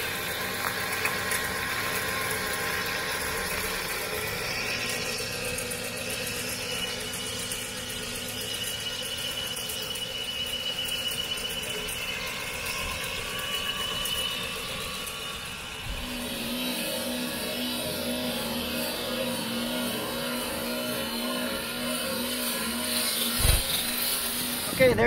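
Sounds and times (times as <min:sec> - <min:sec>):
spreader mechanical noise: 0:00.0 - 0:25.0
thin high whine: 0:00.0 - 0:25.0.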